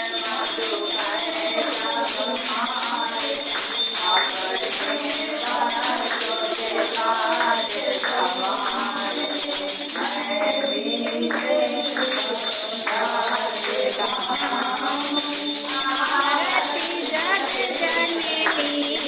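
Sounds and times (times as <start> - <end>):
devotional singing: 0.0 - 19.0
jingling hand percussion: 0.0 - 19.0.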